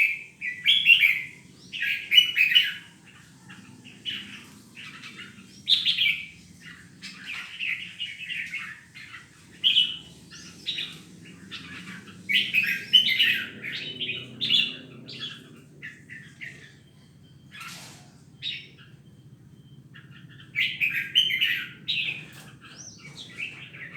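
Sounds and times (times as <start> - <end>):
birds chirping song: 0.0 - 23.9.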